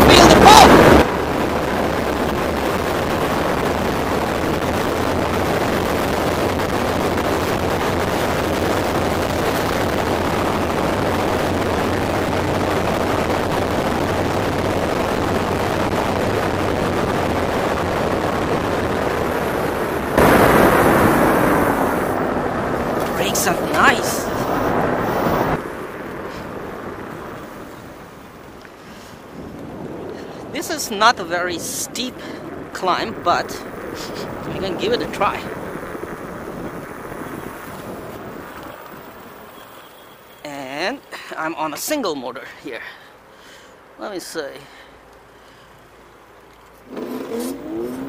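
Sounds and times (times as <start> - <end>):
wind rushing over microphone: 0.0 - 39.8
tyre and road noise: 0.0 - 48.0.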